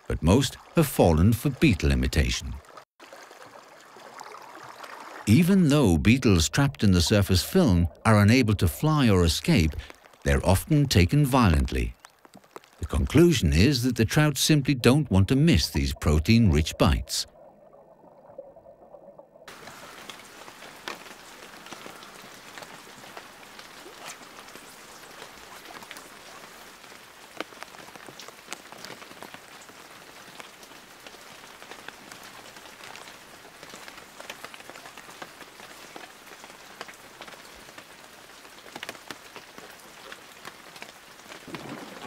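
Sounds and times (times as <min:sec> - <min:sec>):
rain falling on water: 0:00.0 - 0:17.3, 0:19.4 - 0:42.0.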